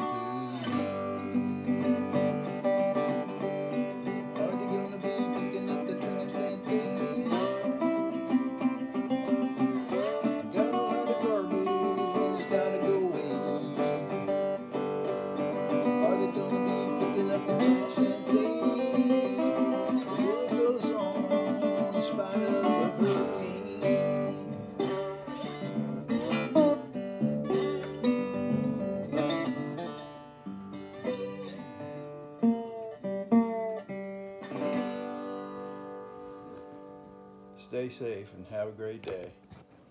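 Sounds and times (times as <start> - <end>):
resonator guitar picked and strummed: 0.0 - 39.9.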